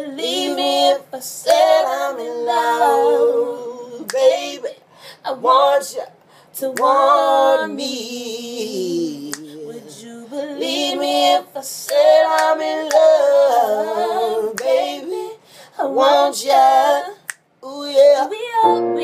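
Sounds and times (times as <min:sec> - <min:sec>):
woman and man singing a cappella: 0:00.0 - 0:19.0.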